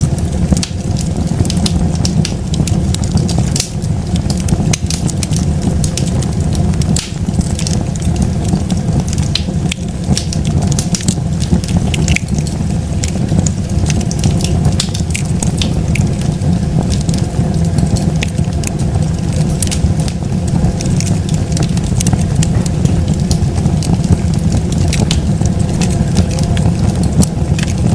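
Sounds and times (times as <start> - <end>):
bonfire crackling and popping: 0.0 - 27.9.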